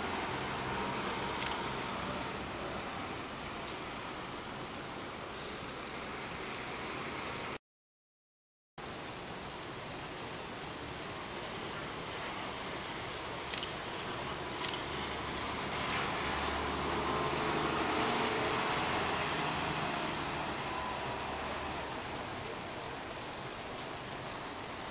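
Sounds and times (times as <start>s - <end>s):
tyres hissing on wet pavement: 0.0s - 7.6s, 8.8s - 24.9s.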